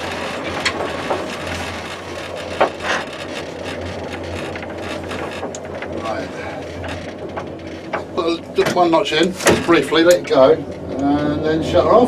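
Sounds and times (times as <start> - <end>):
cab creaks and knocks: 0.0 - 11.3
train low hum and running noise: 0.0 - 12.0.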